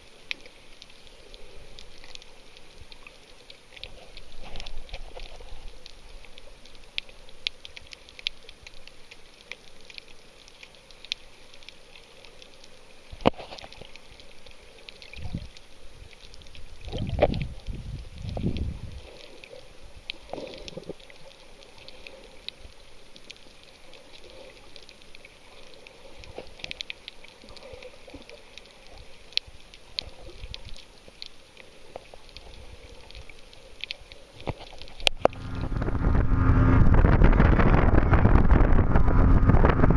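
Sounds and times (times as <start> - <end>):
underwater crackle of clicks: 0.0 - 35.4
muffled surges of water: 0.0 - 39.9.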